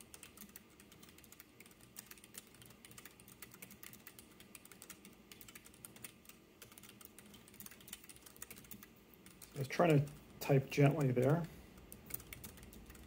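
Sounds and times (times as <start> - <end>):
soft keyboard typing: 0.0 - 13.0.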